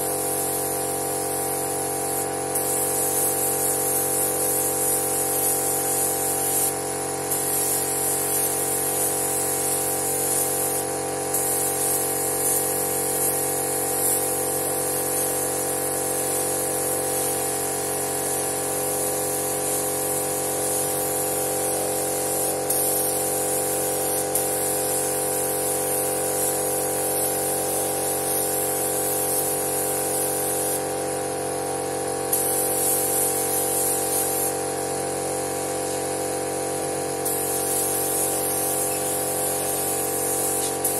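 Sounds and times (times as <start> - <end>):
paint spray gun hissing: 0.0 - 40.9.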